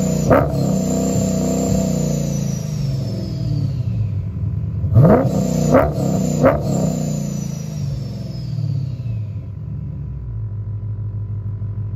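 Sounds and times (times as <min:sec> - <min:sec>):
car engine revving then idling: 0:00.0 - 0:11.9
supercharger whine: 0:00.0 - 0:11.9.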